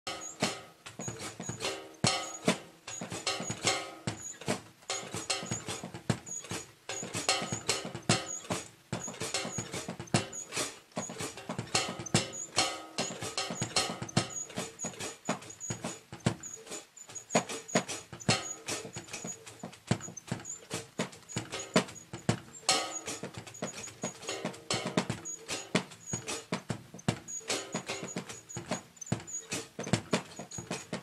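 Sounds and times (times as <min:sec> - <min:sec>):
drum kit playing: 0:00.1 - 0:31.0.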